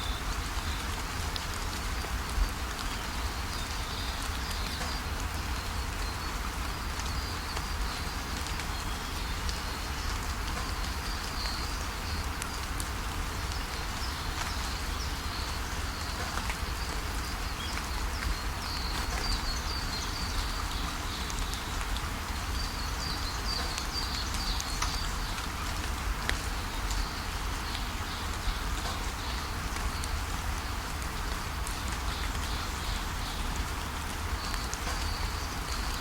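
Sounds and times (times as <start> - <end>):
rain pattering on leaves: 0.0 - 36.0
small birds chirping: 2.8 - 30.9, 31.5 - 36.0.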